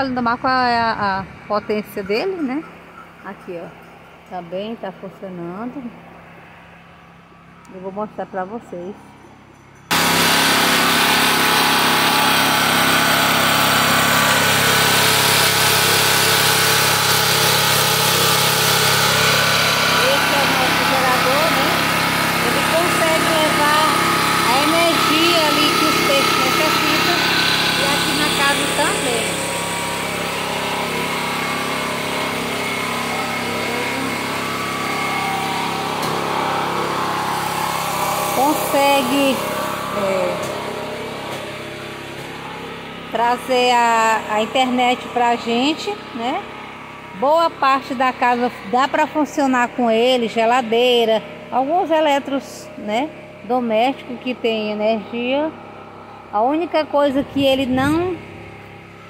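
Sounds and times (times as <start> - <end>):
generator engine running loudly: 0.0 - 9.1, 9.9 - 59.0.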